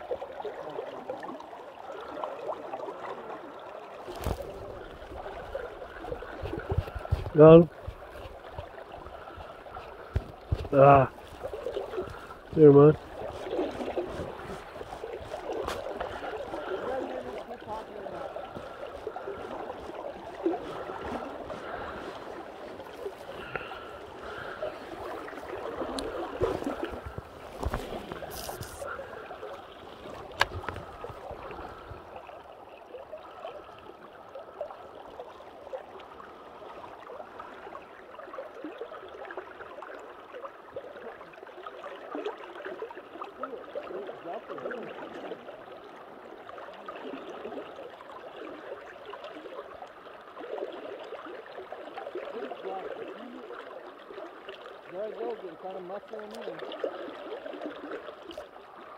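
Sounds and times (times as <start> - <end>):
water lapping against boat: 0.0 - 58.9.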